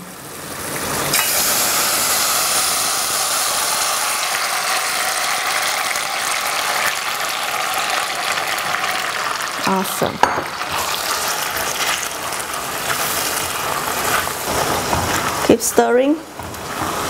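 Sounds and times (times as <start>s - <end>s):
mushrooms sizzling in sugar: 0.0s - 17.0s.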